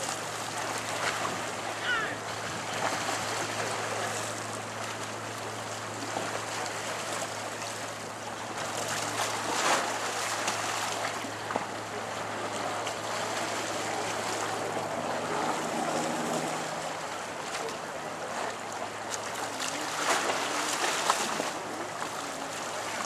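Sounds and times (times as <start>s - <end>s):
choppy water rushing: 0.0s - 23.0s
low motor hum: 0.0s - 23.0s
wind: 0.0s - 23.0s.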